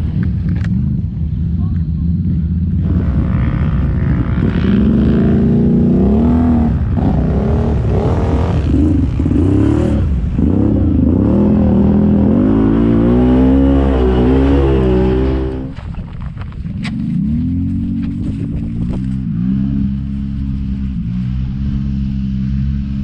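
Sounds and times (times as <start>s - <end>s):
atv engine revving: 0.0s - 15.9s, 16.7s - 23.0s.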